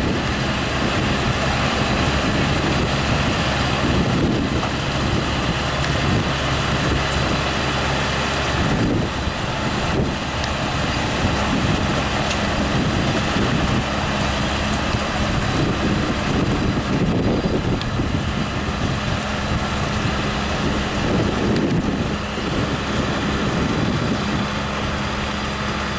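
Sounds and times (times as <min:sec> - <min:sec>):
harvester machinery rattling: 0:00.0 - 0:25.9
tractor engine running under load: 0:00.0 - 0:25.9.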